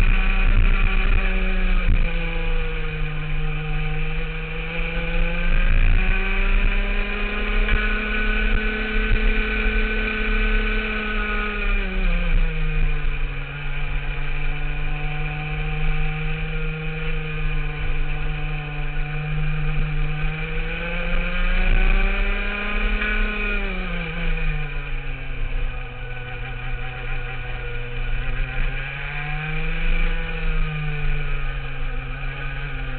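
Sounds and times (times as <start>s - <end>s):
kart engine running: 0.0s - 32.9s.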